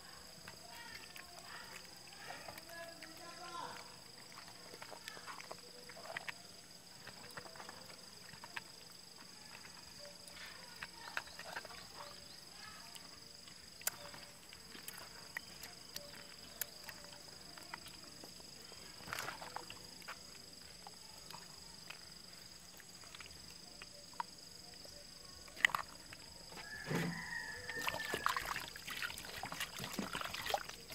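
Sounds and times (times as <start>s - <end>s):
wet rubbing and squelching: 0.4s - 24.4s, 25.4s - 30.9s.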